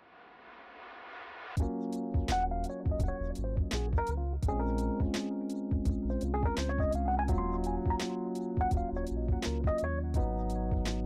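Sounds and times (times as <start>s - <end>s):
keyboard melody over chords: 1.6s - 11.0s
steady beat: 1.6s - 11.0s.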